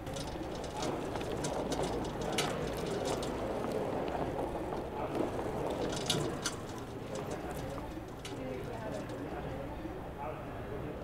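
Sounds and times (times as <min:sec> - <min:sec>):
light clicks and taps: 0:00.0 - 0:09.5
low street rumble: 0:00.0 - 0:11.0.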